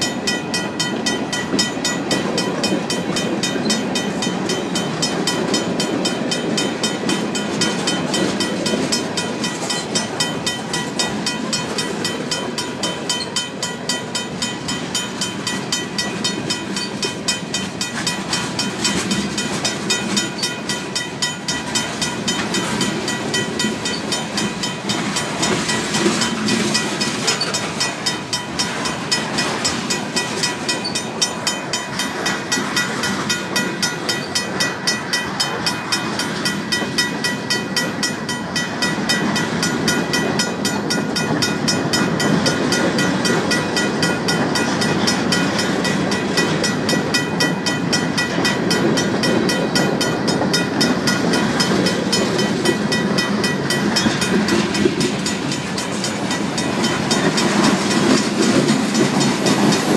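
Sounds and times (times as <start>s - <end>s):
crossing bell ringing: 0.0s - 59.9s
freight train cars rumbling: 0.0s - 59.9s.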